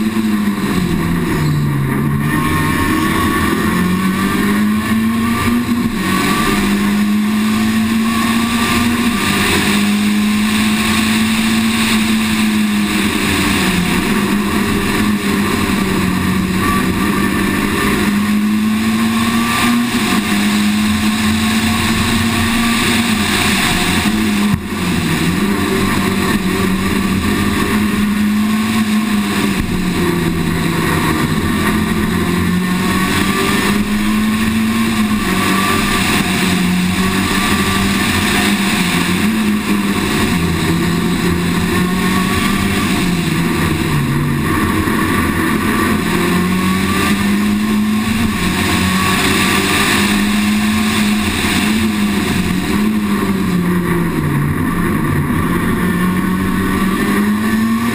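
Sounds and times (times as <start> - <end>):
car engine running under load: 0.0 - 57.9
road and wind noise: 0.0 - 57.9.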